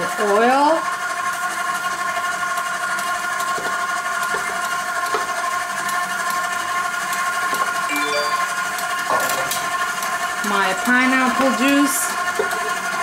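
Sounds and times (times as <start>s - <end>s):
stand mixer motor whine: 0.0s - 7.9s, 8.5s - 13.0s.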